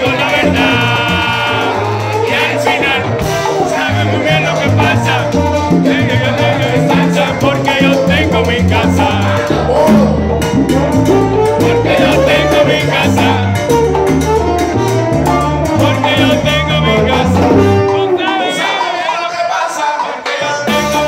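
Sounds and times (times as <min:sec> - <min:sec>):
lead singer singing: 0:00.0 - 0:10.4, 0:11.5 - 0:13.7, 0:15.6 - 0:21.0
salsa band playing: 0:00.0 - 0:21.0.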